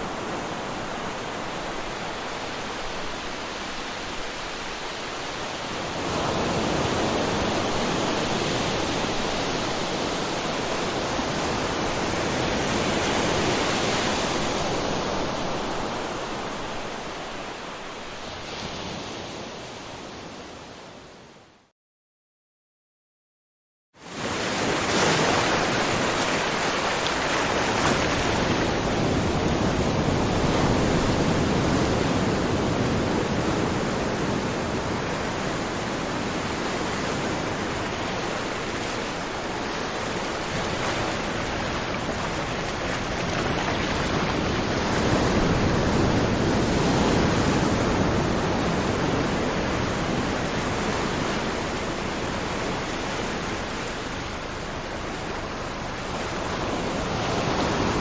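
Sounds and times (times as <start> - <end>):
ocean waves rushing: 0.0 - 20.0, 24.0 - 58.0.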